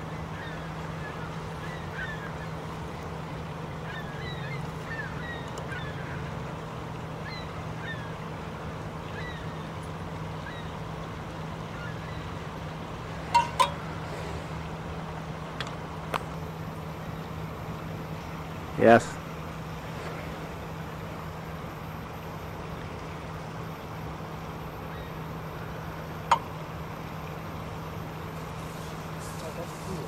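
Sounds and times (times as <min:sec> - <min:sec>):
low hum: 0:00.0 - 0:29.4.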